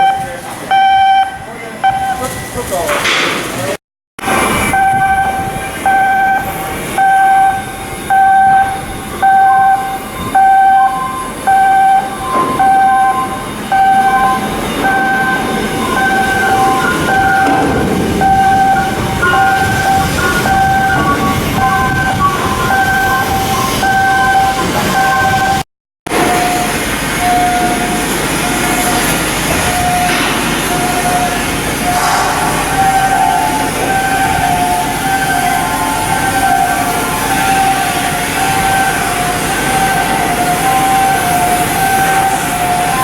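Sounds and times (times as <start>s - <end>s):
electronic alarm beeping: 0.0s - 2.8s, 4.6s - 25.6s, 26.2s - 43.0s
noisy machinery background: 0.0s - 43.0s.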